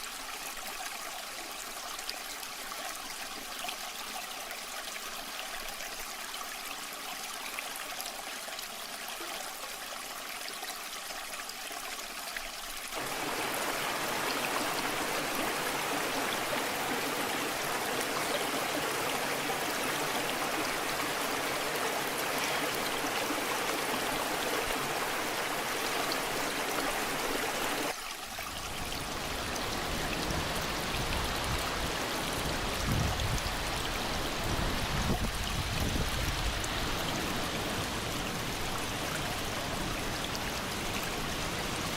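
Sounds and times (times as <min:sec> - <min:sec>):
waterfall flowing: 0:00.0 - 0:41.9.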